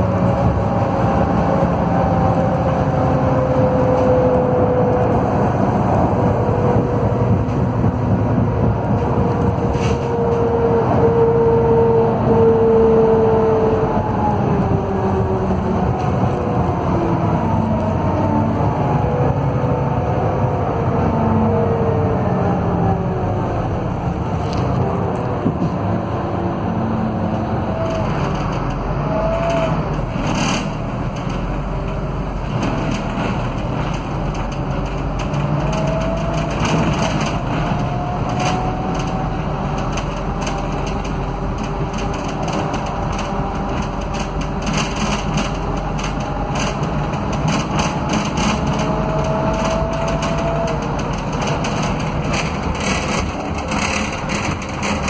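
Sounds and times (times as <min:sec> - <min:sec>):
bus diesel engine rumble: 0:00.0 - 0:55.0.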